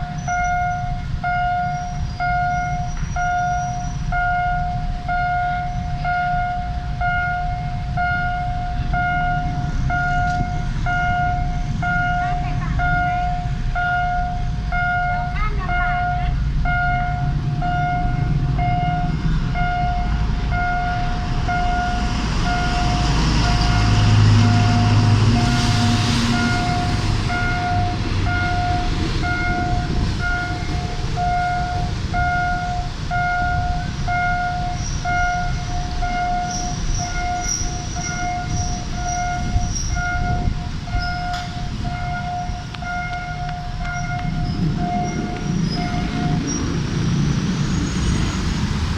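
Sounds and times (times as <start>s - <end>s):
train passing rumble: 0.0s - 48.9s.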